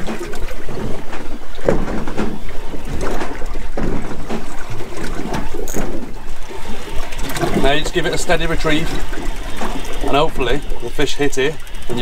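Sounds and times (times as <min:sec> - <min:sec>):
waves splashing against boat hull: 0:00.0 - 0:12.0.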